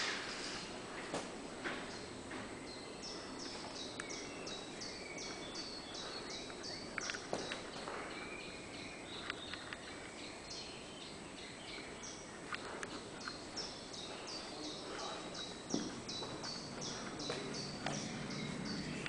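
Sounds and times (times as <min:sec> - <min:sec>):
outdoor background noise: 0:00.0 - 0:19.0
small bird calling: 0:01.9 - 0:19.0.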